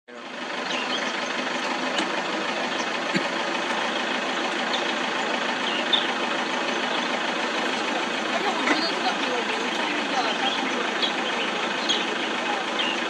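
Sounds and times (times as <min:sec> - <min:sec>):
vehicle engine idling: 0:00.1 - 0:13.0.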